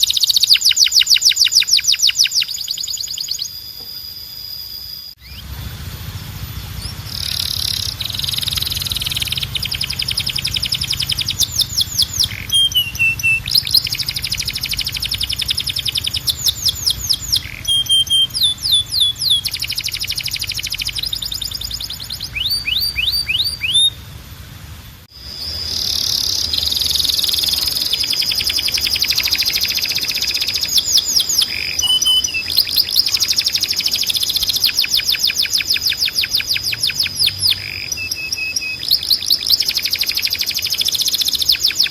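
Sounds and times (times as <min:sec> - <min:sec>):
canary singing trills: 0:00.0 - 0:24.2, 0:25.1 - 0:41.9.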